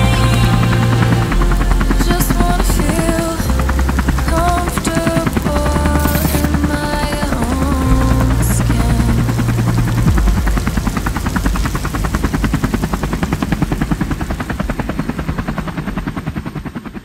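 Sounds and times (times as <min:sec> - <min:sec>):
helicopter rotor blades chopping: 0:00.0 - 0:17.0.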